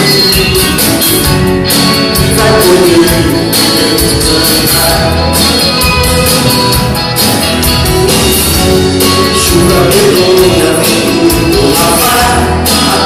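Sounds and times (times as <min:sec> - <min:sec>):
acoustic guitar: 0:00.0 - 0:13.0
live band playing instrumental: 0:00.0 - 0:13.0.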